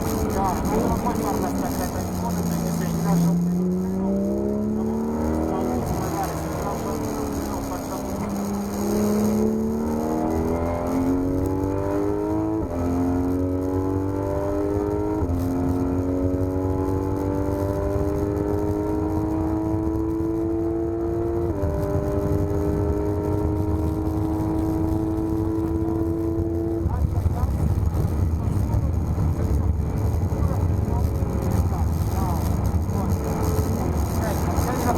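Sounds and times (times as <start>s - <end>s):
car engine accelerating hard: 0.0s - 34.9s.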